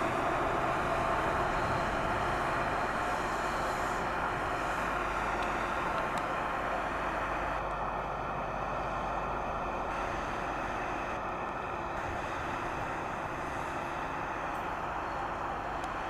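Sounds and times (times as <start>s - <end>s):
faint steady tones: 0.0s - 16.0s
train running noise: 0.0s - 16.0s.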